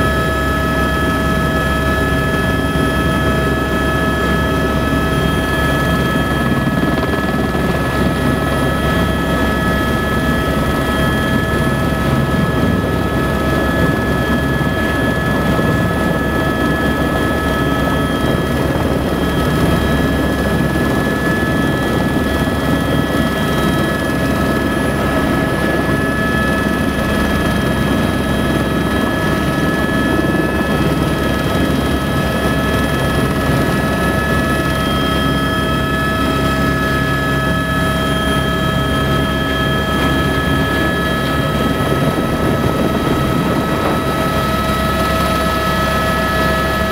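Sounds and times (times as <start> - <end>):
helicopter rotor noise: 0.0 - 46.9
high turbine whine: 0.0 - 46.9.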